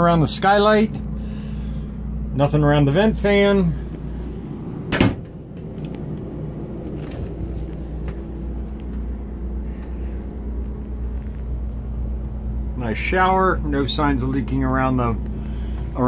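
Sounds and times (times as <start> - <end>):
generator and air conditioner hum: 0.0 - 16.0.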